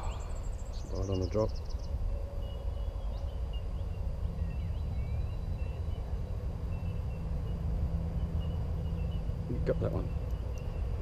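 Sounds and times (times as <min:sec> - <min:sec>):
faint bird chirps: 0:00.0 - 0:11.0
low rumble: 0:00.0 - 0:11.0.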